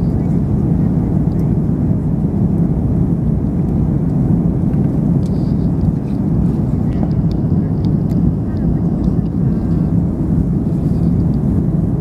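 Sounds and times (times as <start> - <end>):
airliner cabin engine rumble: 0.0 - 12.0
faint steady hum: 0.0 - 12.0.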